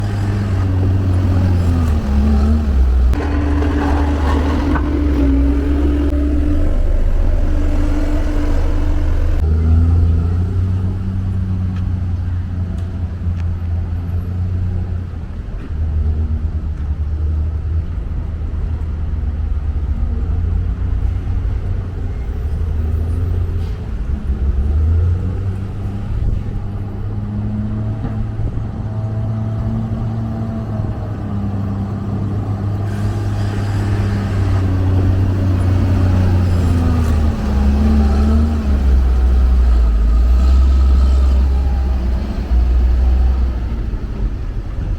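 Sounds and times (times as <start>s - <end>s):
diesel machinery engine drone: 0.0s - 44.9s.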